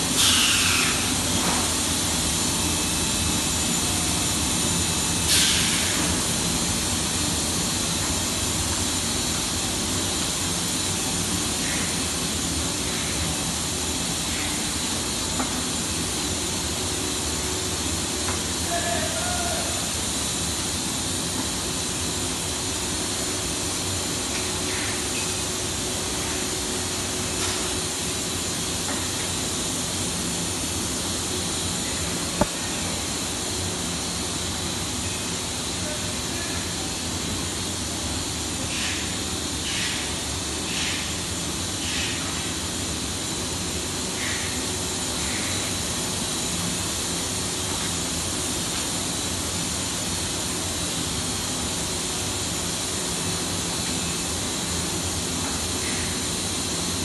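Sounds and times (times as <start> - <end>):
machinery hiss and hum: 0.0 - 57.0.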